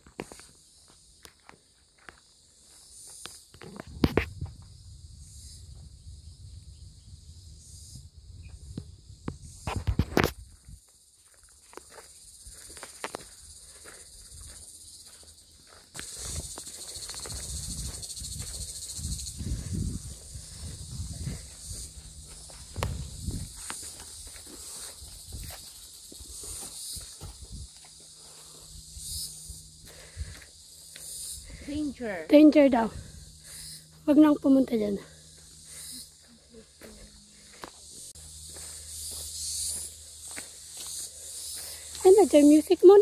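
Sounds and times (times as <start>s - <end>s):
footsteps on trail: 0.0s - 4.6s, 9.8s - 43.0s
insects chorus: 0.0s - 43.0s.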